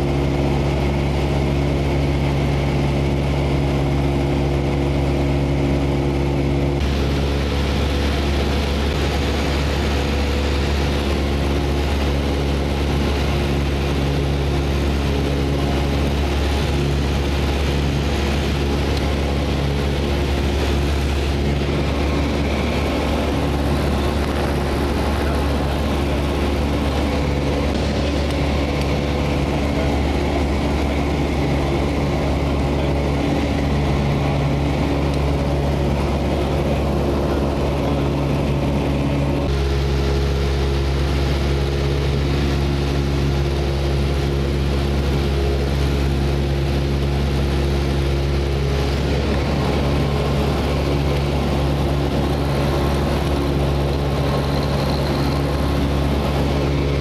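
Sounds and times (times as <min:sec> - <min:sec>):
light aircraft engine drone: 0:00.0 - 0:57.0.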